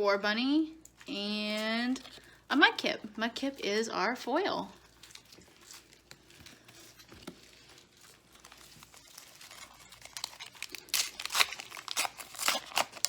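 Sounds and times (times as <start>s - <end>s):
plastic wrapper crinkling: 0.8s - 2.5s, 3.4s - 13.0s.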